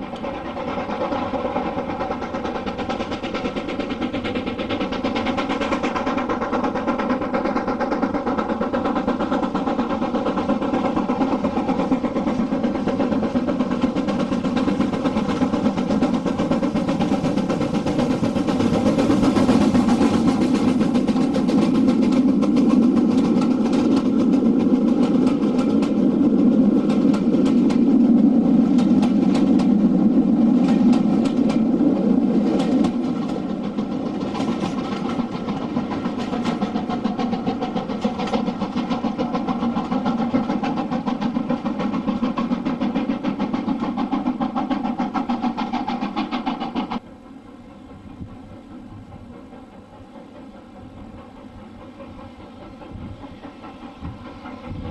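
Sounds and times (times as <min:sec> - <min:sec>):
steam locomotive exhaust beats: 0:00.0 - 0:54.9.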